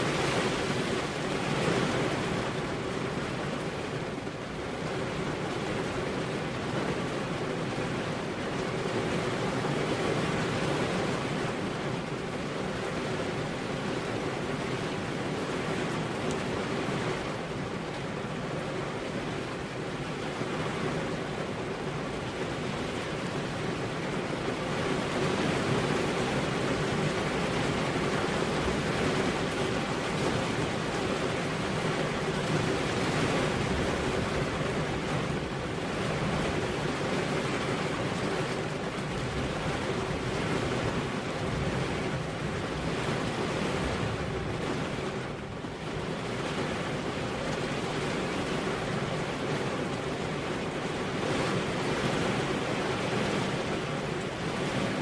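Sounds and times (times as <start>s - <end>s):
steady rain: 0.0s - 55.0s
wind: 0.0s - 55.0s.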